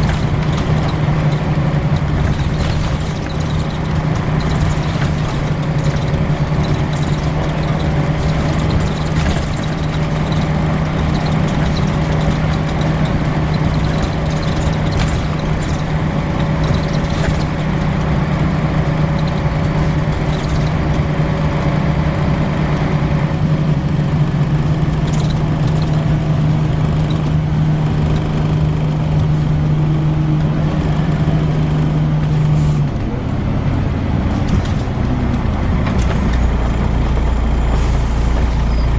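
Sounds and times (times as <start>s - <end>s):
bus interior noise: 0.0s - 38.9s
steady hum on bus: 0.0s - 38.9s.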